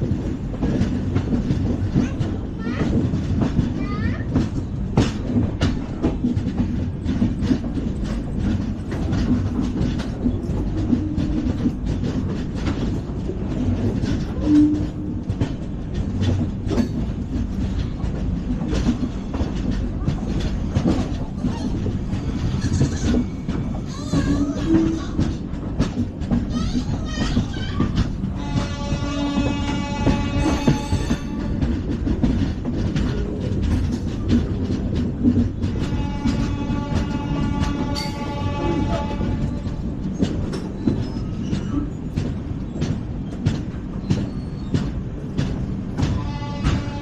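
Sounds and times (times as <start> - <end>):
train wheels rumbling on rail: 0.0 - 47.0
wheels clattering over rail joints: 0.0 - 47.0.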